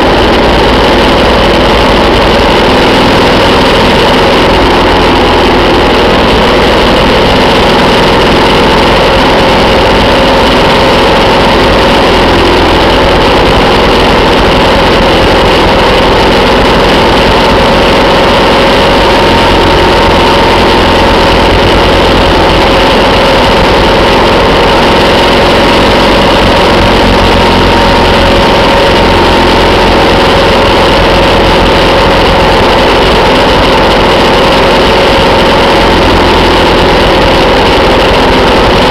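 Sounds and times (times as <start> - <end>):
motorcycle engine running: 0.0 - 38.9
steady rushing noise: 0.0 - 38.9.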